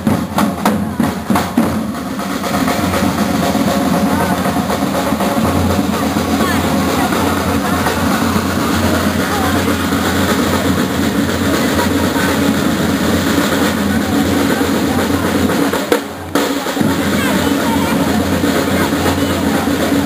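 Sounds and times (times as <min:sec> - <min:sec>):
parade drums playing: 0:00.0 - 0:20.0.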